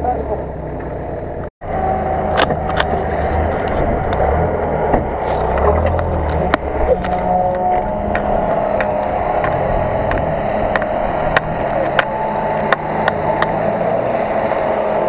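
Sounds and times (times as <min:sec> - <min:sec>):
off-road vehicle engine rumbling: 0:00.0 - 0:15.0.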